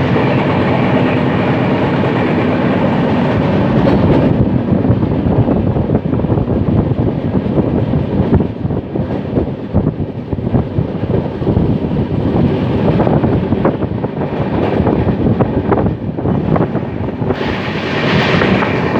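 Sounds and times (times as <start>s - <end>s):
wind buffeting: 0.0s - 18.9s.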